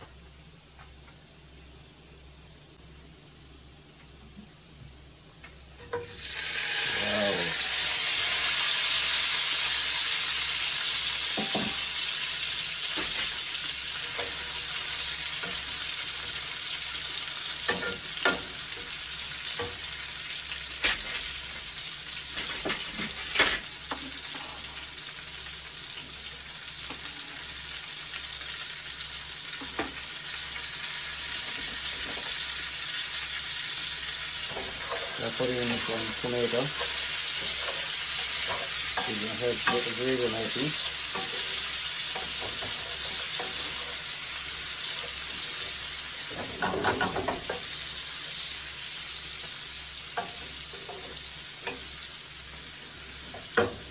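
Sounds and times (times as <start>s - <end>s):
food sizzling in a pot: 5.5s - 53.9s.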